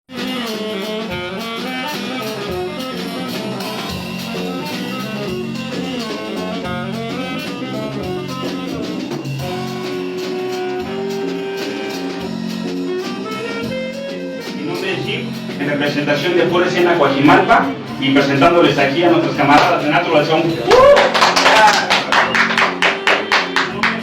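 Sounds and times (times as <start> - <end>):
drum kit: 0.1 - 24.0
horn melody: 0.1 - 24.0.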